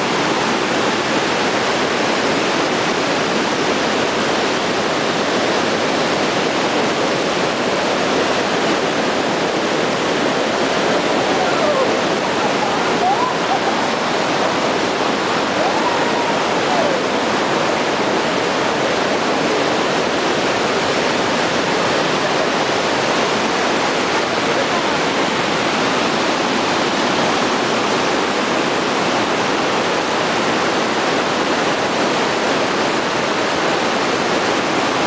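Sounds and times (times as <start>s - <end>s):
large waterfall roaring: 0.0s - 35.0s.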